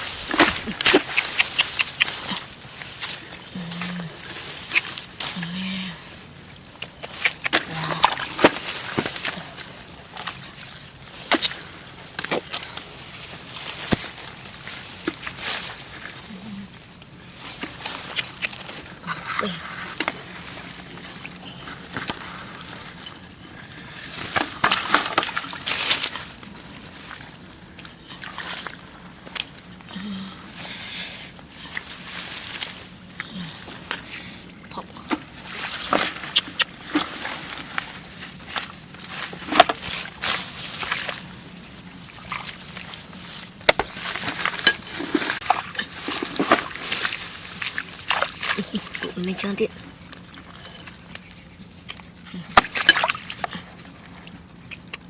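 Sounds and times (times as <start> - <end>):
splashing in muddy water: 0.0 - 51.6, 52.2 - 55.0
hands squelching in mud: 0.0 - 55.0.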